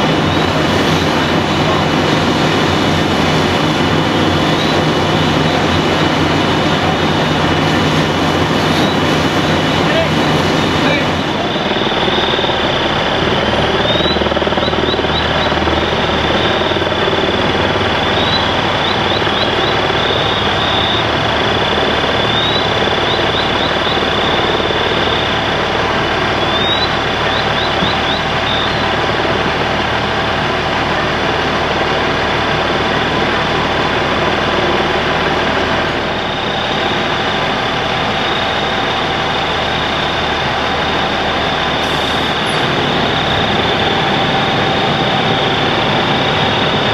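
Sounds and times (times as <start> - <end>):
diesel engine and pump running: 0.0 - 46.9
thin high whine: 0.0 - 46.9.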